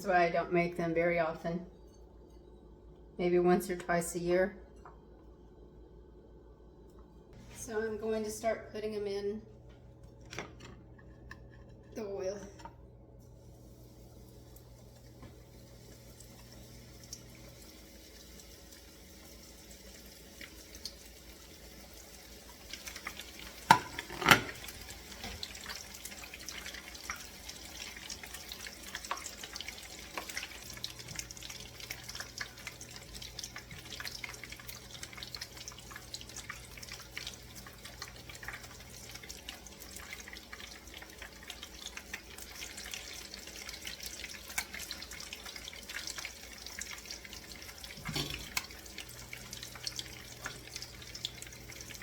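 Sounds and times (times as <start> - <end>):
oil frying sizzle: 10.1 - 52.0.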